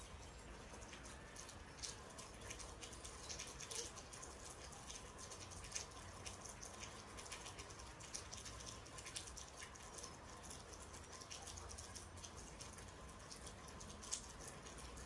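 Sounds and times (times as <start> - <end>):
light raindrops pattering: 0.0 - 15.0.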